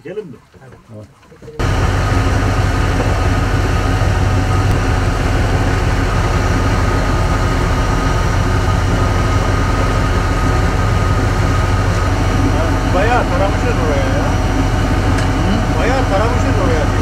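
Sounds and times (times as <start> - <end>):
boat engine droning: 1.6 - 17.0.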